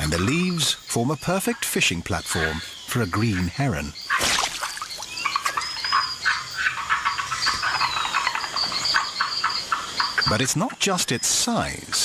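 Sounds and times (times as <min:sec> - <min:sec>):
frogs calling: 0:00.0 - 0:12.0.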